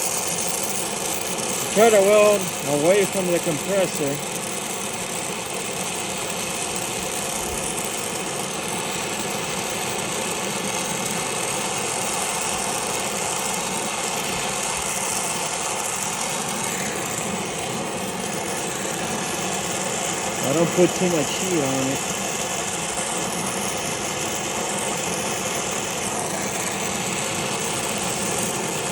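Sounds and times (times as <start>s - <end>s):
torch flame hissing roar: 0.0s - 28.9s.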